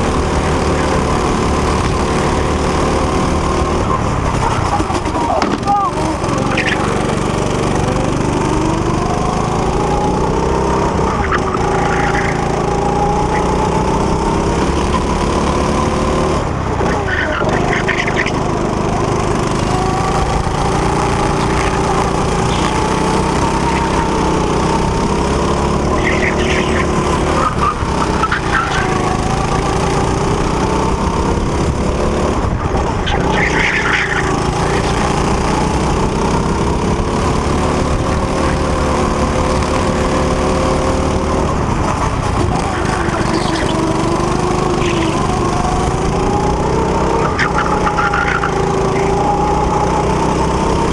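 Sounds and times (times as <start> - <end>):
go-kart engine running: 0.0 - 50.9.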